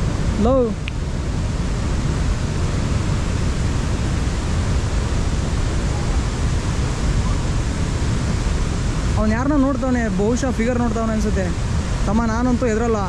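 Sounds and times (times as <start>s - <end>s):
waterfall roaring: 0.0s - 13.0s
wind rumble on microphone: 0.0s - 13.0s.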